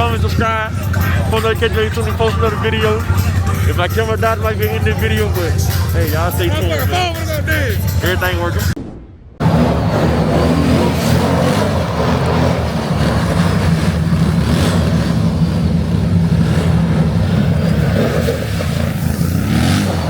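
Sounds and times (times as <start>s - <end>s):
car engine running: 0.0s - 8.8s, 9.4s - 20.0s.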